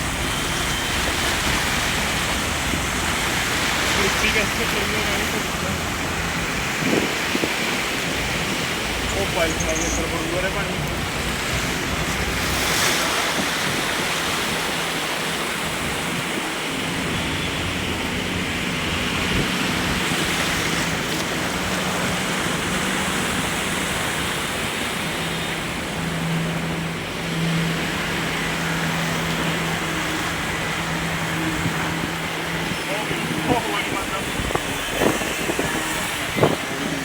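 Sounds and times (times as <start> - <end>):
floodwater rushing: 0.0 - 37.0.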